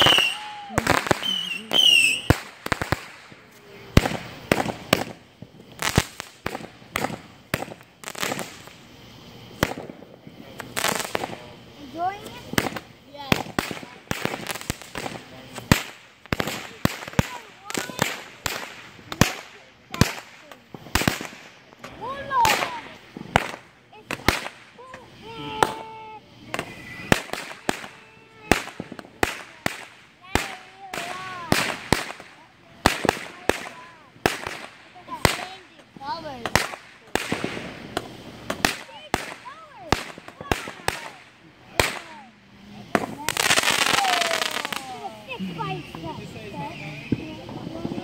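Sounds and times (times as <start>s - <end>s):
fireworks bangs and pops: 0.0s - 48.0s
fireworks crackling: 0.0s - 48.0s.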